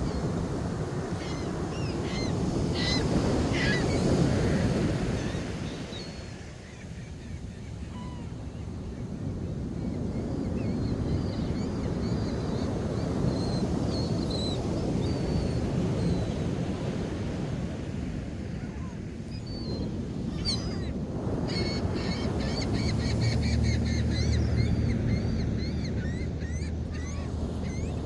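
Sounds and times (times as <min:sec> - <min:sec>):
ocean surf washing onto beach: 0:00.0 - 0:28.0.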